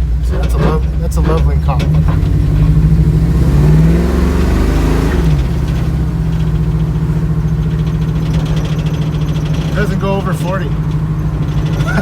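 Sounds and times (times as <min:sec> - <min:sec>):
car engine heard from inside: 0:00.0 - 0:12.0.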